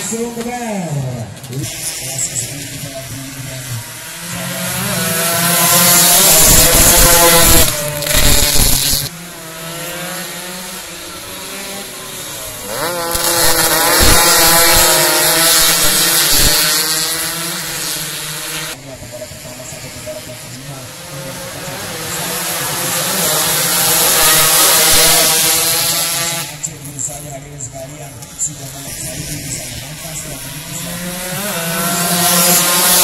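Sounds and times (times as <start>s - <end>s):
racing motorcycles passing: 0.0s - 33.0s.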